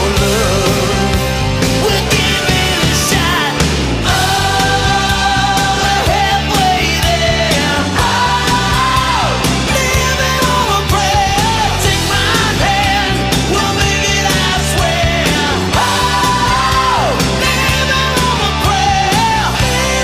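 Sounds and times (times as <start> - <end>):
song with vocals over beat: 0.0 - 20.0.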